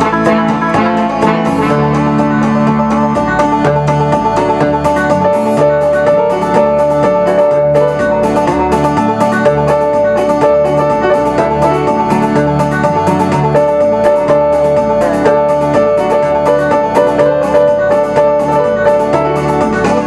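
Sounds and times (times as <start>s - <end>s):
home organ playing country tune: 0.0s - 20.0s.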